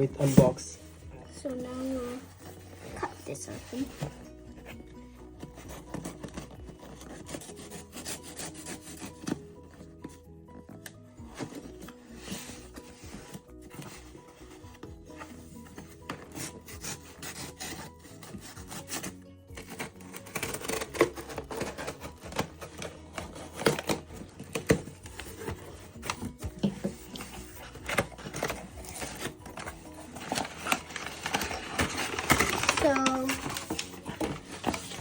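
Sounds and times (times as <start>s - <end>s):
packaging scraping and crackling: 5.4s - 35.0s.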